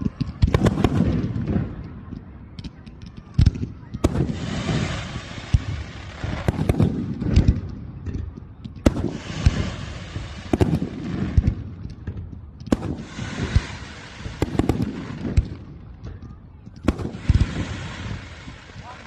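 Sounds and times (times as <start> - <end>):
crackling hiss of fireworks: 0.0 - 19.0.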